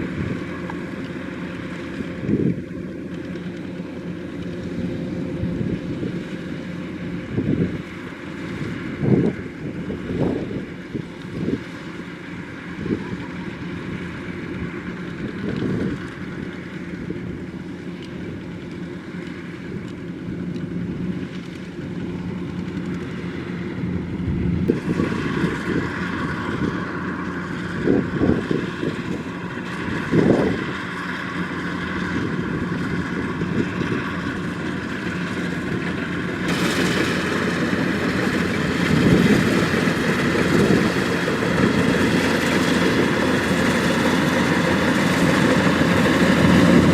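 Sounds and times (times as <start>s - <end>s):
combine harvester mechanical drone: 0.0s - 46.9s.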